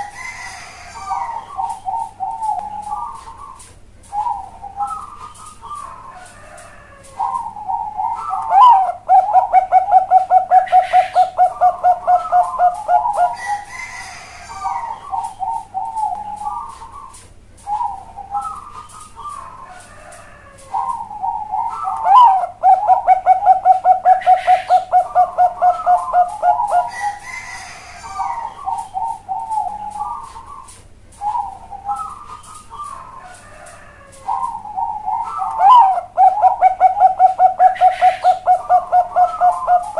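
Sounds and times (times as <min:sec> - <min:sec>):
dove cooing and trilling: 0:00.0 - 0:39.9.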